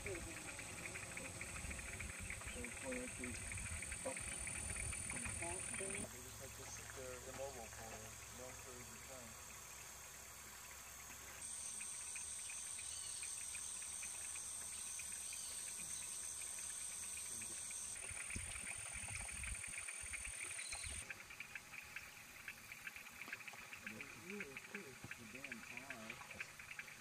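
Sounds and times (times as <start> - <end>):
fast-pulsing insect chirping: 0.0 - 27.0
insect high-pitched buzz: 0.0 - 27.0.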